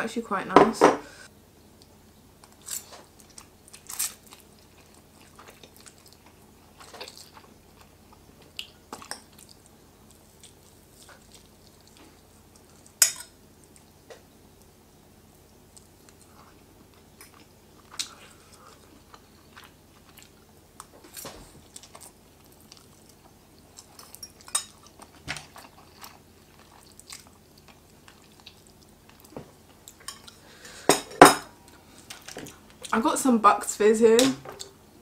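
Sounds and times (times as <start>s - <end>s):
person chewing noodles: 1.8s - 14.0s, 14.6s - 30.8s.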